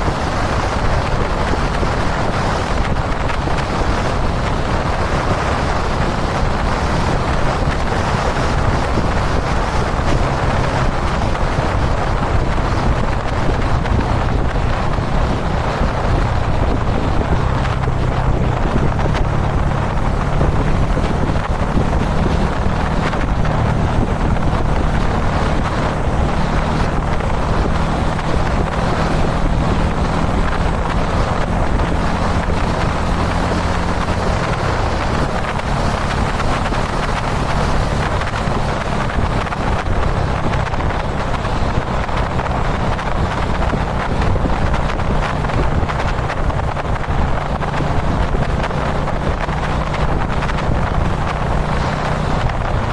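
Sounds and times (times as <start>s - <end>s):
motorcycle engine cruising: 0.0s - 52.9s
wind rushing over microphone: 0.0s - 52.9s.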